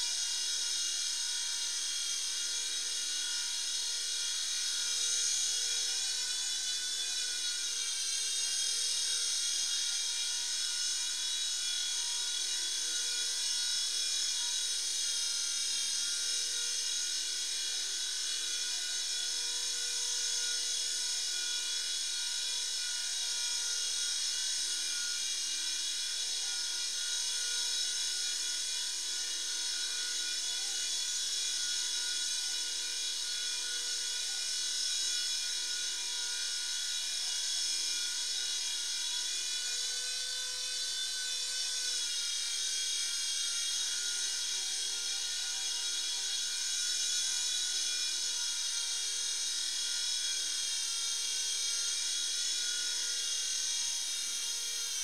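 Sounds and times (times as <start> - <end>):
toy helicopter motor whining: 0.0 - 55.0.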